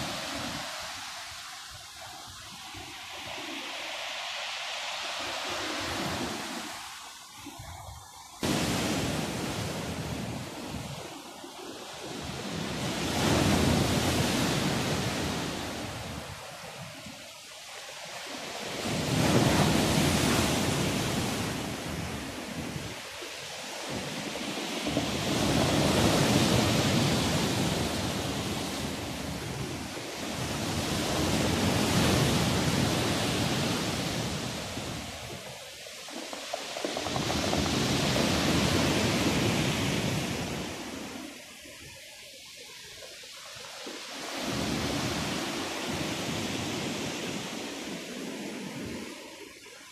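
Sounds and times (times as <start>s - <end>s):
waves breaking on shore: 0.0s - 49.9s.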